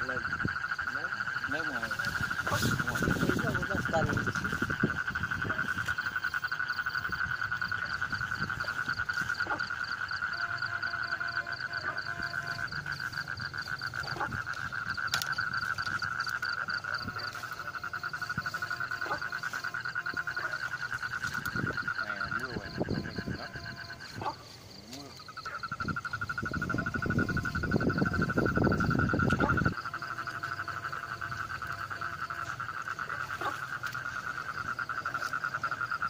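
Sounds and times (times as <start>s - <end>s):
frogs pulsing trill: 0.0s - 36.0s
higher rapid pulsed frog call: 0.0s - 36.0s.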